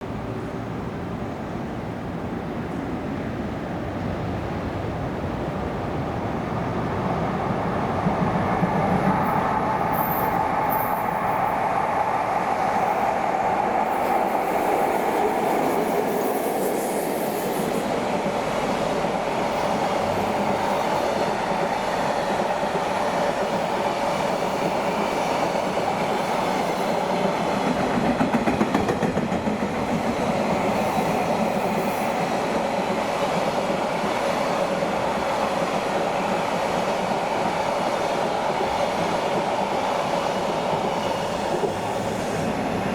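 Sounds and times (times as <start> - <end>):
freight train wheels rumbling: 0.2 - 42.9.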